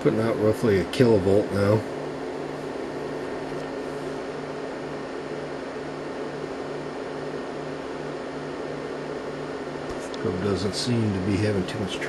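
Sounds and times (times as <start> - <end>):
equipment hum and fan noise: 0.0 - 12.0
pulsing low hum: 0.0 - 12.0.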